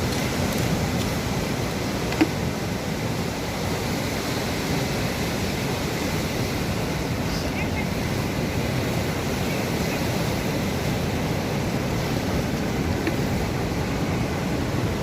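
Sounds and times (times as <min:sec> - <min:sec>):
sea surf rushing: 0:00.0 - 0:15.0
wind noise on microphone: 0:00.0 - 0:15.0.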